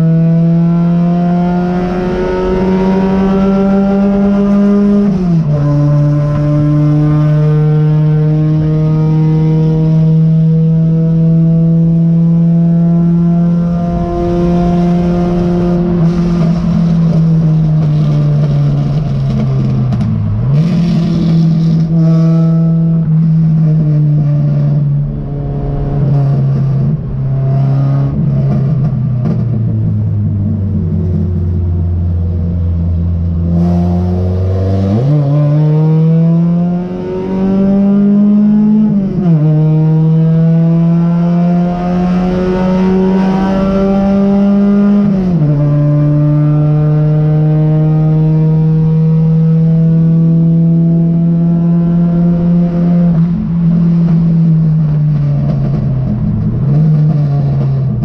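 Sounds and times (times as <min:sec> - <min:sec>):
race car engine revving: 0:00.0 - 0:58.0
road noise: 0:00.0 - 0:58.0.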